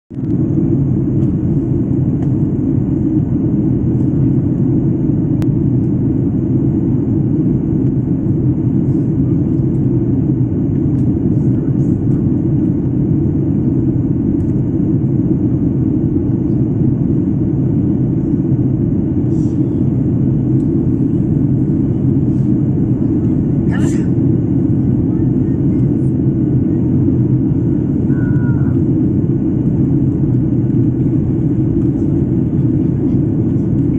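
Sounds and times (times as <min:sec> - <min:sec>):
airliner cabin engine rumble: 0:00.1 - 0:33.9.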